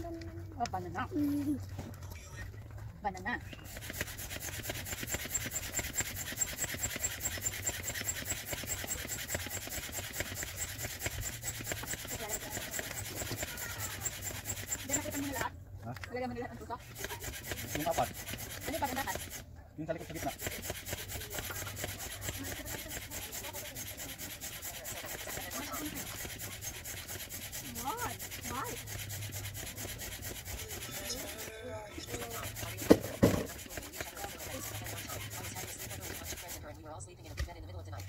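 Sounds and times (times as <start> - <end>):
hand air pump whooshing: 3.2 - 15.6, 16.5 - 36.8.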